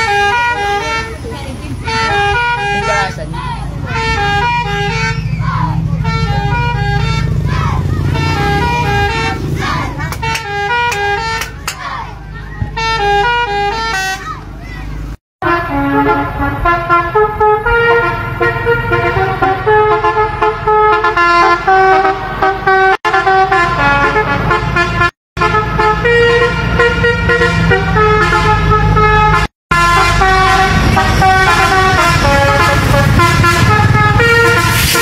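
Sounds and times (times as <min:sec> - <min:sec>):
bus horn playing a quick melody: 0:00.0 - 0:01.2, 0:01.8 - 0:03.2, 0:03.9 - 0:05.2, 0:06.0 - 0:11.6, 0:12.8 - 0:14.3, 0:15.4 - 0:35.0
bus engine rumble: 0:00.0 - 0:35.0.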